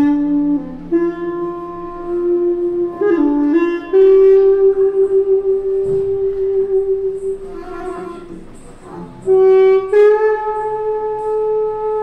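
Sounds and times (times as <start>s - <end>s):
lower held note: 0.0s - 12.0s
melody of long held notes: 0.0s - 12.0s.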